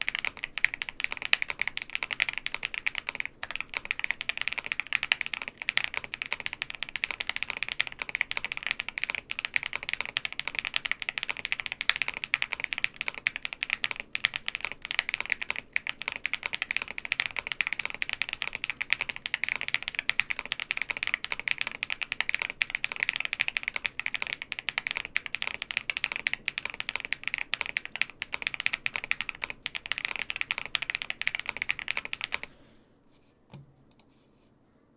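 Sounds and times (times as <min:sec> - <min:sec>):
mechanical keyboard typing: 0:00.0 - 0:32.5.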